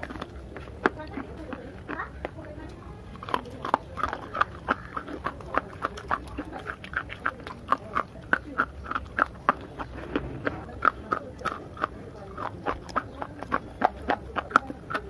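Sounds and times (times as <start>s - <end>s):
crunching and chewing clay: 0.0s - 15.0s
wet mouth sounds: 0.0s - 15.0s.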